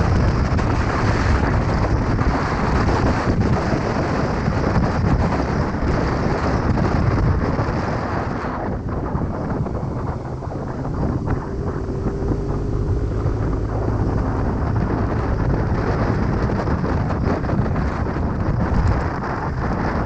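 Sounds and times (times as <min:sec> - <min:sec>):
motorcycle engine rumble: 0:00.0 - 0:20.0
road noise: 0:00.0 - 0:20.0
wind buffeting microphone: 0:00.0 - 0:20.0.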